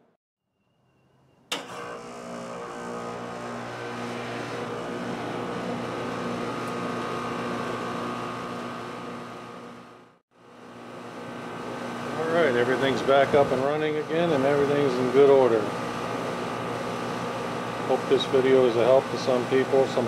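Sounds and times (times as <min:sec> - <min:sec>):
air conditioner unit humming: 0:02.0 - 0:20.0.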